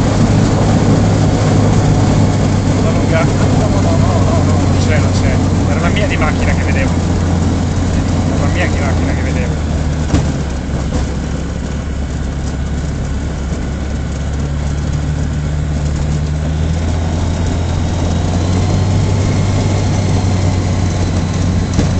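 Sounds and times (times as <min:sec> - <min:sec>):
propeller engine droning: 0:00.0 - 0:21.9.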